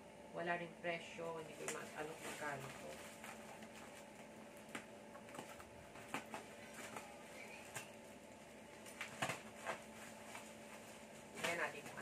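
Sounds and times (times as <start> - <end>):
faint steady hum: 0.0 - 12.0
plastic crinkling: 1.4 - 12.0.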